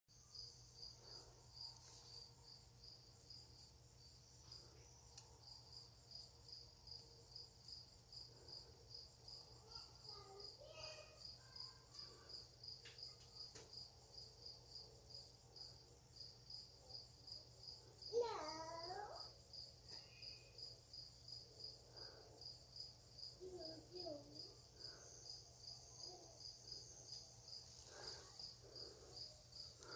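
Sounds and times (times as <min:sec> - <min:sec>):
insect chirping: 0:00.1 - 0:29.9.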